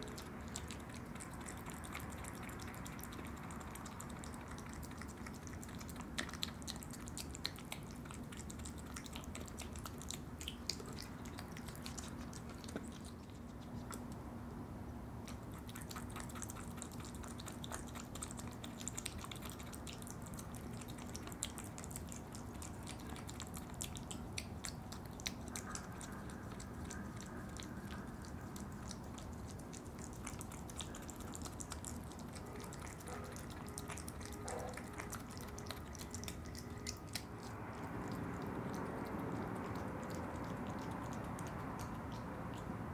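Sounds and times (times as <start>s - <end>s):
animals smacking and chewing: 0.0s - 42.9s.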